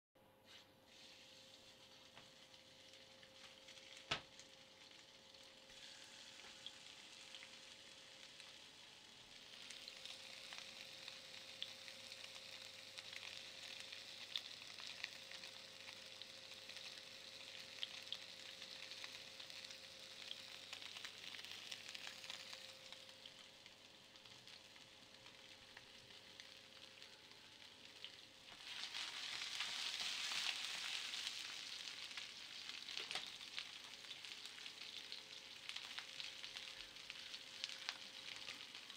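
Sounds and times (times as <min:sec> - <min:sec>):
faint steady hum: 0:00.2 - 0:38.9
crackling hiss: 0:00.8 - 0:38.9.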